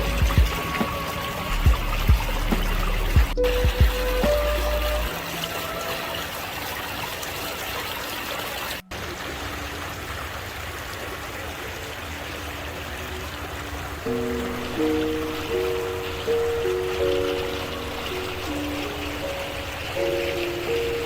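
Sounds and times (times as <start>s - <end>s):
water running and trickling: 0.0s - 21.0s.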